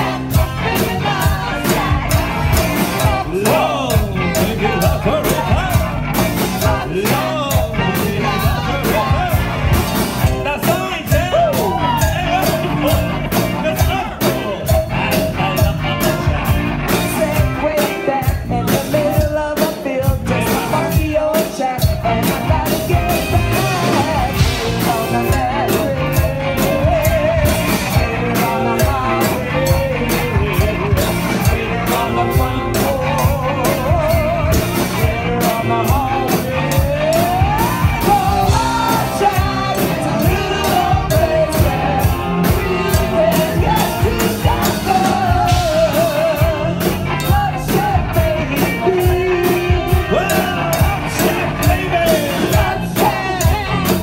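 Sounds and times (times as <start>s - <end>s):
drums keeping a steady beat: 0.0s - 54.0s
electric guitar: 0.0s - 54.0s
person singing: 0.0s - 54.0s
rock band playing: 0.0s - 54.0s.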